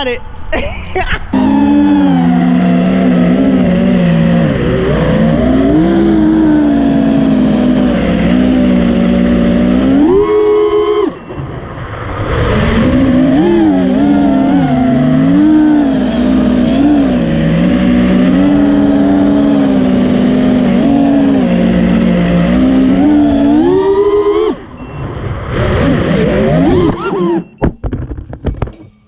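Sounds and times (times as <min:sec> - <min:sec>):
drone motors whining: 0:01.3 - 0:27.8.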